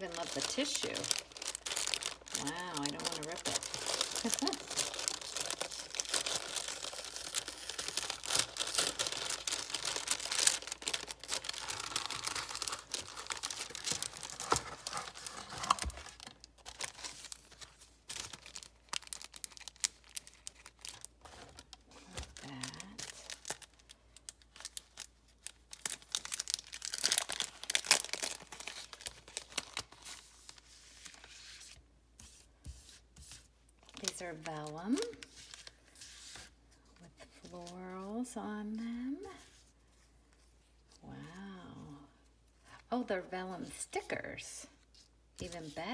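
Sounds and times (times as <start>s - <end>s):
tissue paper rustling: 0.0s - 38.2s, 44.8s - 45.9s.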